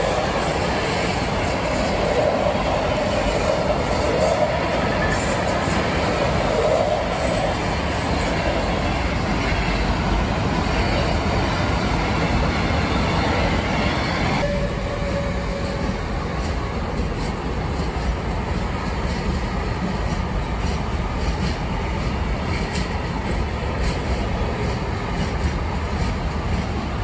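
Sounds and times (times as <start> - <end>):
freight train wagons rolling: 0.0 - 27.0
train wheel squeal: 0.0 - 27.0.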